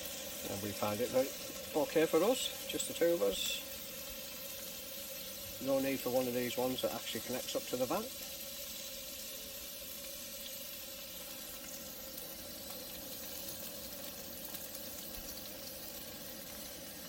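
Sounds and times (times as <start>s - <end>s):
meat sizzling on a grill: 0.0s - 17.0s.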